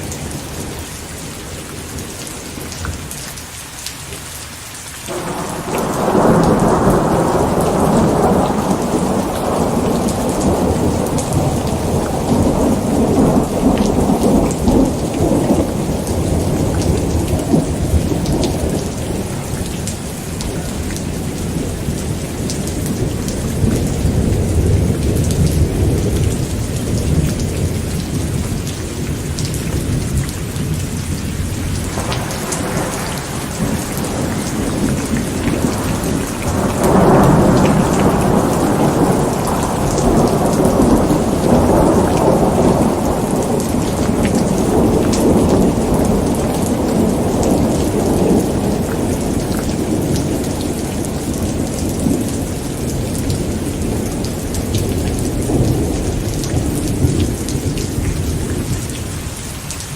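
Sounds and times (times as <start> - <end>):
rain pattering: 0.0 - 59.9
rolling thunder: 5.1 - 59.2.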